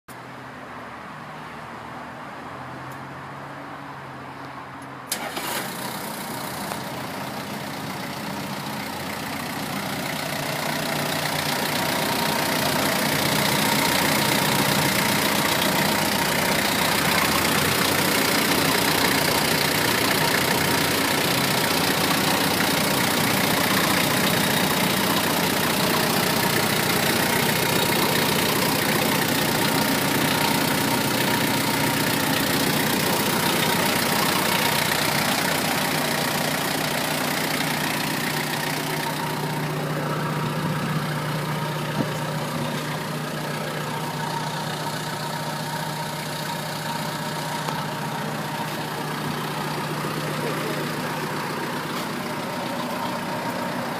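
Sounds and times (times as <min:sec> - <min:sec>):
diesel engine idling: 0:05.1 - 0:53.9
forklift diesel engine starting: 0:05.1 - 0:53.9.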